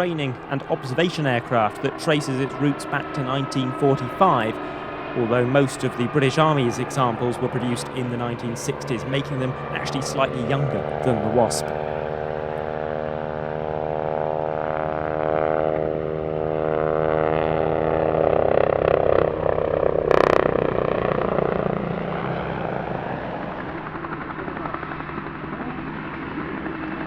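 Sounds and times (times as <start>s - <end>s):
helicopter rotor and engine drone: 0.0s - 27.0s.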